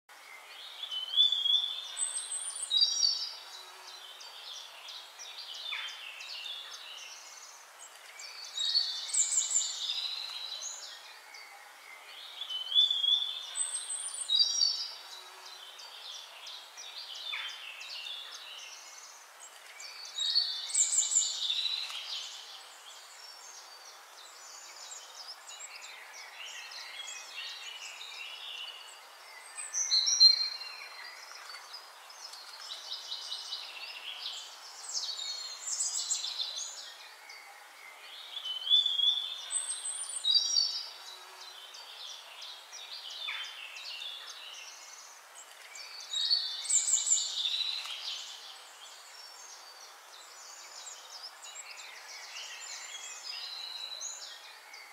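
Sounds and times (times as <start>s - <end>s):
birdsong chirps and trills: 0.1s - 54.9s
steady hiss: 0.1s - 54.9s.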